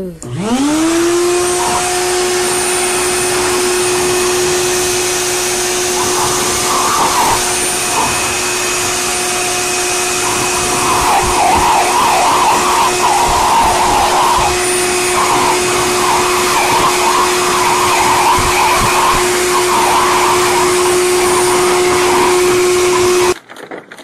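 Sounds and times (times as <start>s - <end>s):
blow dryer motor whine: 0.0s - 23.4s
uneven rough noise: 0.2s - 23.4s.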